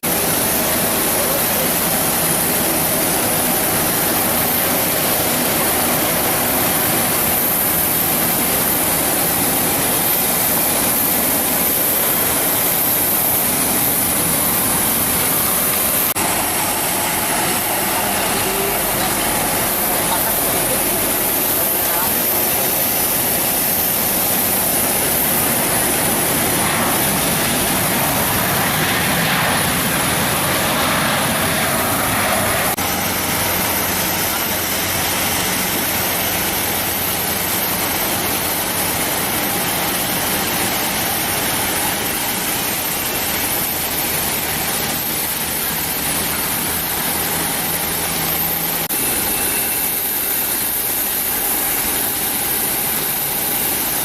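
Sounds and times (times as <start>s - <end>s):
jet engines running at low power: 0.0s - 54.0s.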